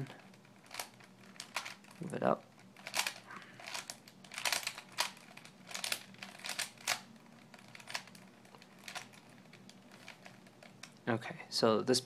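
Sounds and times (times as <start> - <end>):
puzzle cube clicking and rattling: 0.0 - 11.0.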